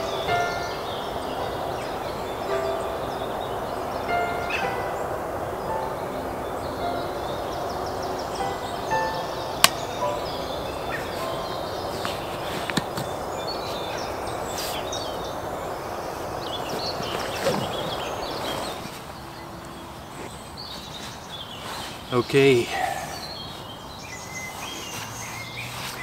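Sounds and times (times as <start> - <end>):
steady rushing noise: 0.0 - 21.3
birds chirping: 0.0 - 26.0.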